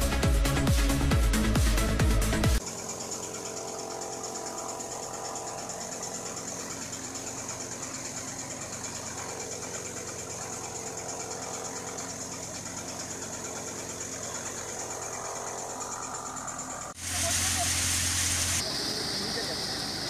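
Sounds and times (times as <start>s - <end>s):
machine engine running: 0.0s - 20.0s.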